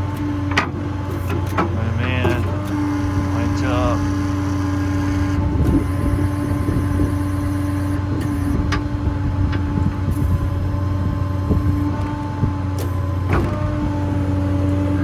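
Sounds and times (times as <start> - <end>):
hydraulic pump whine: 0.0 - 15.0
truck engine running: 0.0 - 15.0.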